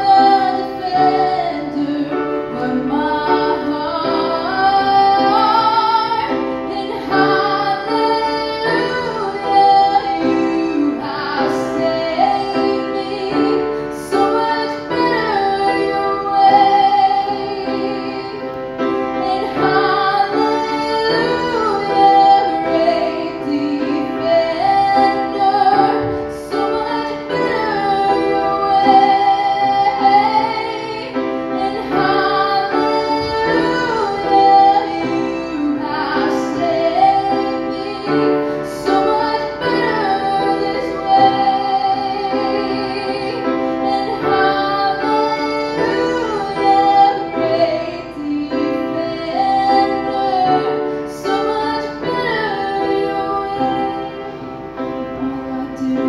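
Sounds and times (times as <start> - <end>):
grand piano: 0.0 - 56.0
woman singing with vibrato: 0.0 - 56.0.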